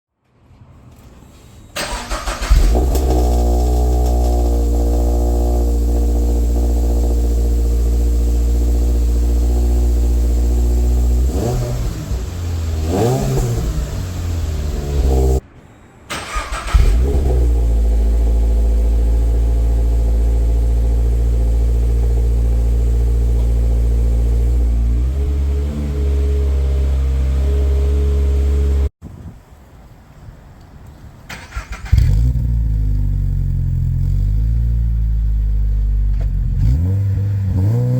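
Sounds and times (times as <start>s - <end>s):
car engine idling and revving: 1.8s - 15.4s, 16.2s - 28.9s, 31.5s - 37.9s.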